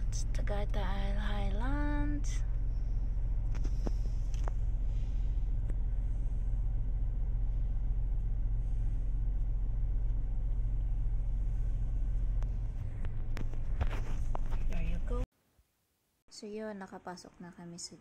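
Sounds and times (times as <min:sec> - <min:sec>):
car engine and road noise: 0:00.0 - 0:15.3.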